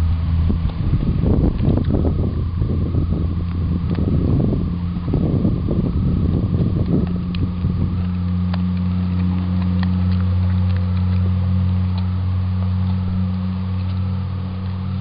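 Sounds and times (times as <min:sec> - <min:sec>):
dog crunching bones: 0:00.0 - 0:15.0
low engine hum: 0:00.0 - 0:15.0.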